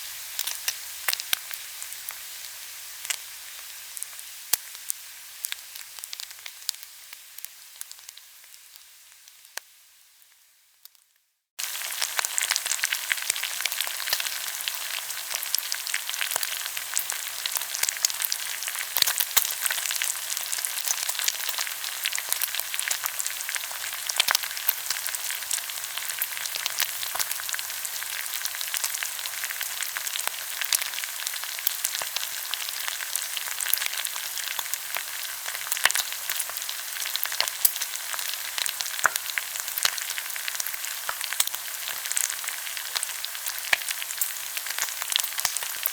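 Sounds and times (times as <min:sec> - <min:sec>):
meat sizzling and crackling: 0:00.0 - 0:45.9.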